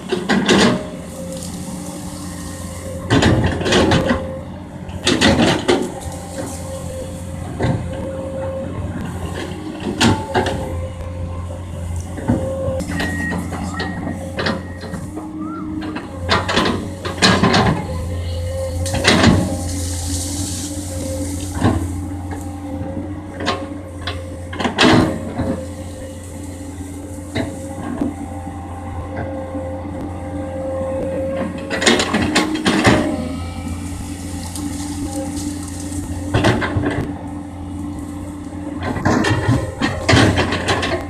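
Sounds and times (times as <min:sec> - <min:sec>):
excavator clanks and knocks: 0:00.0 - 0:41.0
excavator diesel engine whining: 0:00.0 - 0:41.0.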